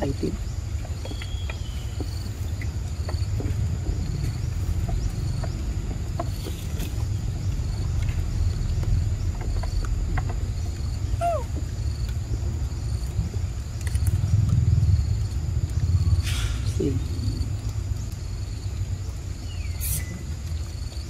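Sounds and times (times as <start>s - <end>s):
high insect drone: 0.0s - 21.0s
low rumble: 0.0s - 21.0s.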